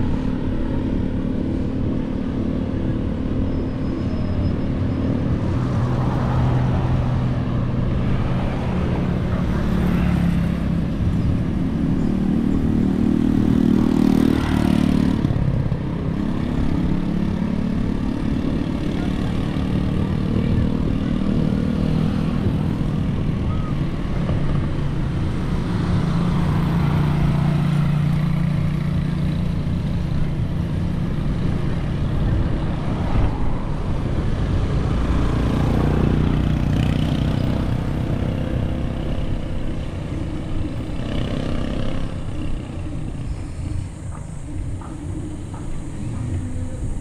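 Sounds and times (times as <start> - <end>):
road and wind noise: 0.0 - 47.0
vehicle engine humming: 0.0 - 47.0.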